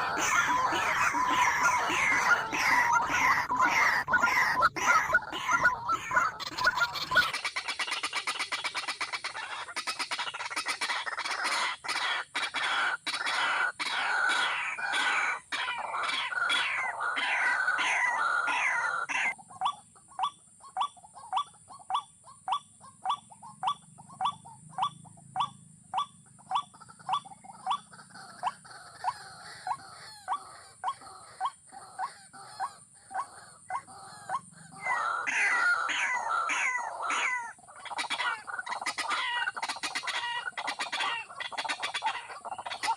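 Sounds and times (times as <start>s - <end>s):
waterhen chattering: 0.0s - 42.9s.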